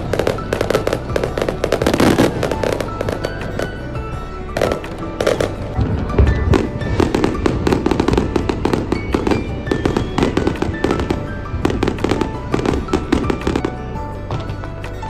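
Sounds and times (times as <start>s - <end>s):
background music: 0.0s - 15.0s
fireworks bursting and crackling: 0.0s - 15.0s.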